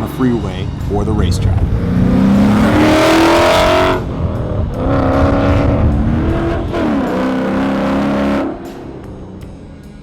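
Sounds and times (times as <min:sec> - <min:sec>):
car engine accelerating hard: 0:00.7 - 0:09.2.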